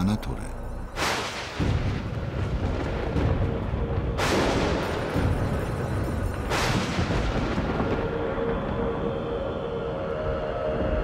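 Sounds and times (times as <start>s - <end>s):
film music: 0.0s - 11.0s
thunder claps with low rumble: 1.0s - 10.0s.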